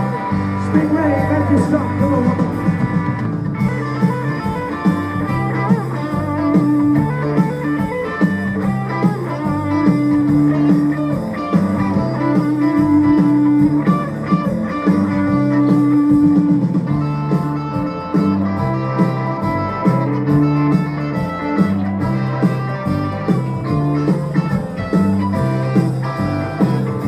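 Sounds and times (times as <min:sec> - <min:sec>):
electric guitar: 0:00.0 - 0:27.0
live rock band playing: 0:00.0 - 0:27.0.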